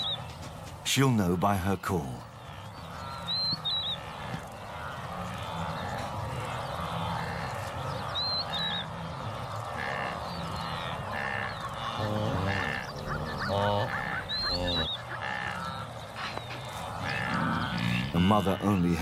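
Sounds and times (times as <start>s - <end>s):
birds twittering: 0.0s - 19.0s
wildebeest honking calls: 2.2s - 19.0s.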